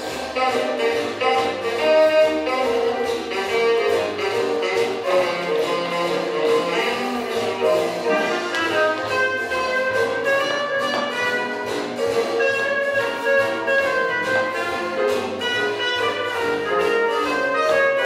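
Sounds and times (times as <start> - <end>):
swing jazz with horns: 0.0 - 18.0.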